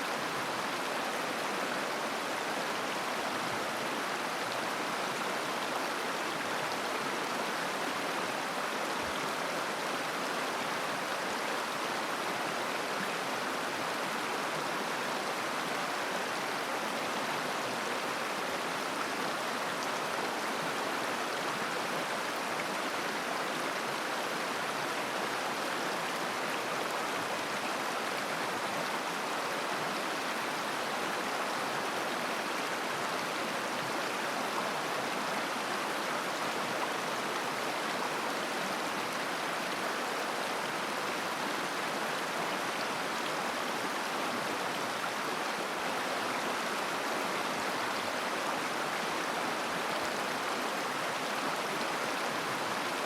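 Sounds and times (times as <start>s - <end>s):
river babbling over stones: 0.1s - 53.0s.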